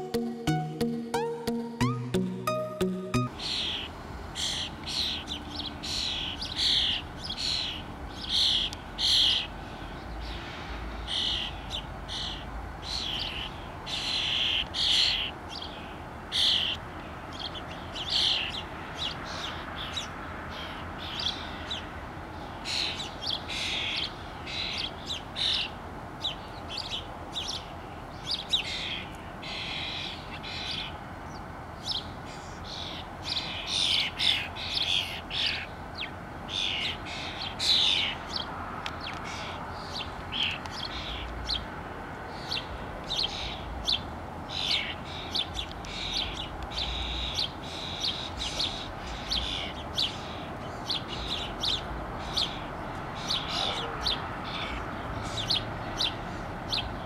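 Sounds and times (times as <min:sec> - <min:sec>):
steady background noise: 0:00.0 - 0:57.0
starlings chirping harshly: 0:03.3 - 0:41.7, 0:42.3 - 0:57.0.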